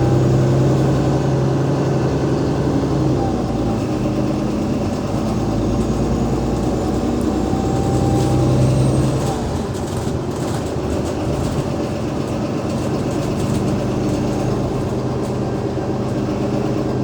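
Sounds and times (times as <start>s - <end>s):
bus diesel engine hum: 0.0s - 17.0s.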